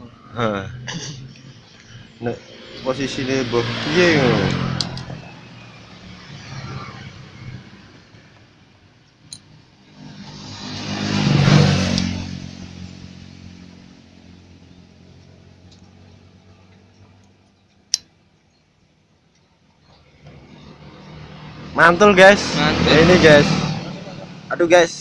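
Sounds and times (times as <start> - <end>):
vehicle engine passing by: 0.0 - 17.6, 19.9 - 25.0.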